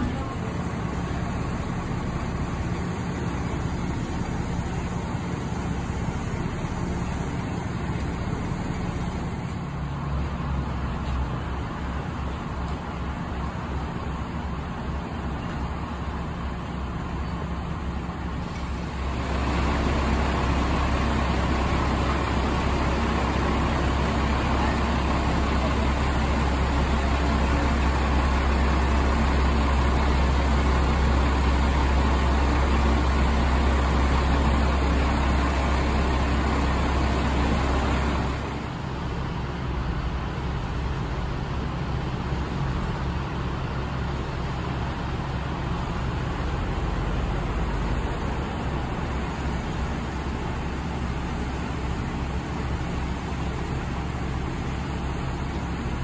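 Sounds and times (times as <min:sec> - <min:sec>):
diesel railcar engine humming: 0:00.0 - 0:56.0.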